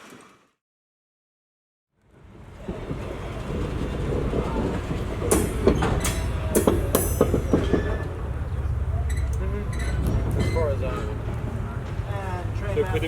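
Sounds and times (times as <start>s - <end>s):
train rumbling: 2.0s - 13.0s
wheels clacking over rail joints: 2.1s - 13.0s.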